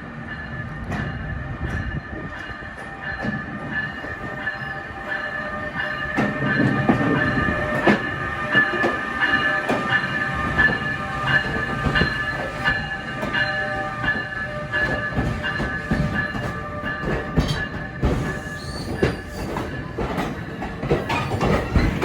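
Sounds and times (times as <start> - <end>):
passenger train passing: 0.0 - 22.0.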